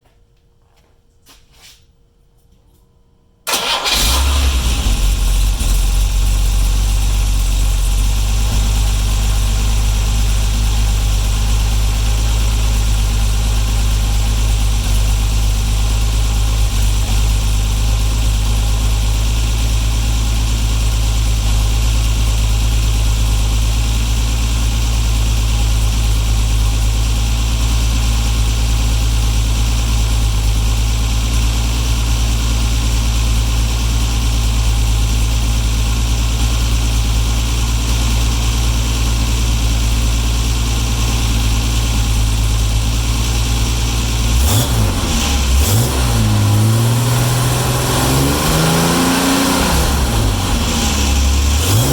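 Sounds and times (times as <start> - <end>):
car engine idling: 3.5 - 51.9.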